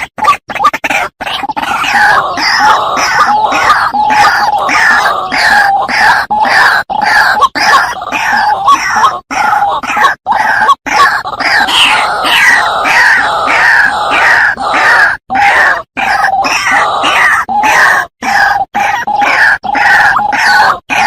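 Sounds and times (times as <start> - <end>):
waterhen harsh croaking calls: 0.0 - 21.0.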